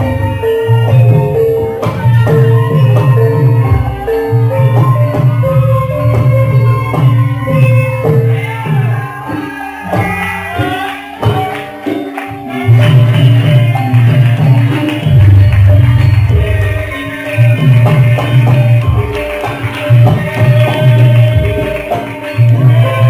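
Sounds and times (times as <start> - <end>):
heavy drum beats: 0.0 - 23.0.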